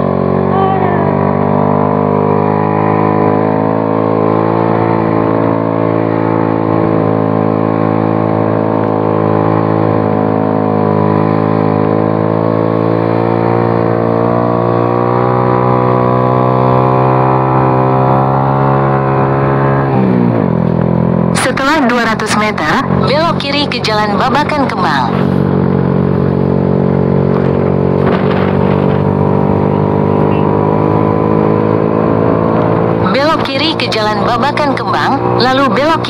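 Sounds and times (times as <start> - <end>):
scooter engine running: 0.0 - 36.0.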